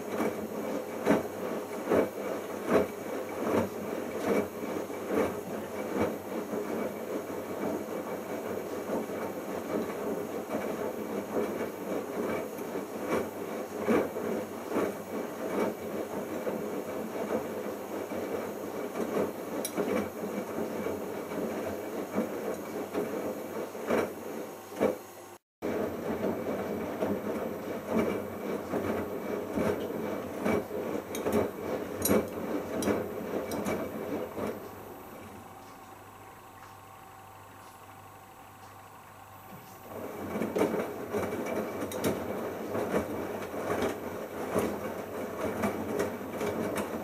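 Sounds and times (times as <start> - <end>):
washing machine drum churning: 0.0 - 47.0.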